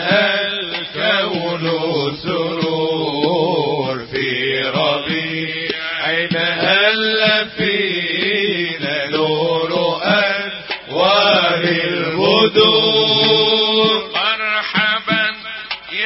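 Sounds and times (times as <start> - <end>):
man chanting unaccompanied: 0.0 - 16.0.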